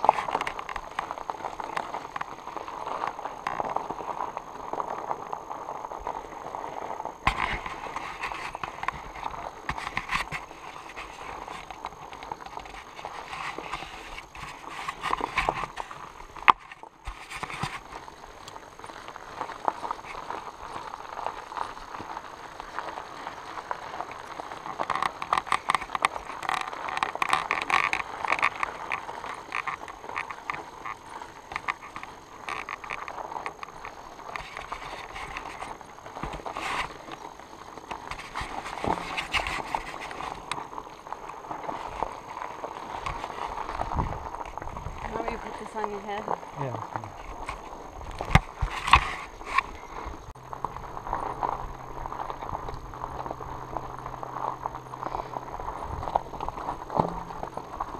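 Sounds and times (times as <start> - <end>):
bike rattling over stony track: 0.0 - 57.9.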